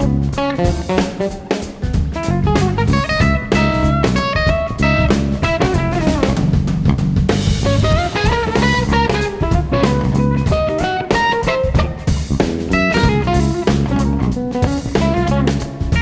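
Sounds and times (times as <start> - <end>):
drum kit: 0.0 - 16.0
electric guitar melody: 0.0 - 16.0
jazz-funk band playing: 0.0 - 16.0
low bass notes: 0.0 - 16.0.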